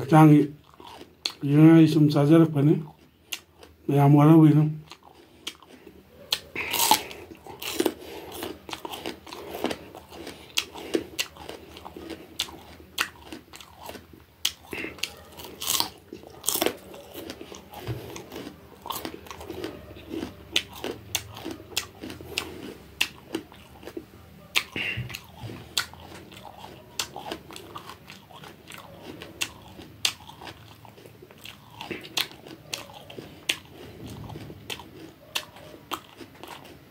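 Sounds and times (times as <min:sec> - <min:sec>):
crisp crunches of chewing: 0:00.0 - 0:02.0, 0:02.6 - 0:36.9.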